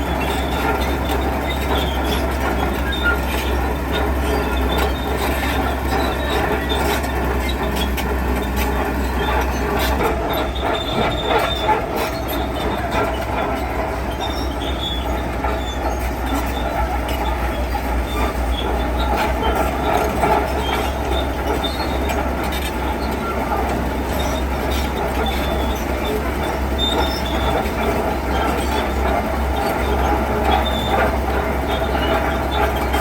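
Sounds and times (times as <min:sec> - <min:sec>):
construction machine engine running: 0:00.0 - 0:33.0.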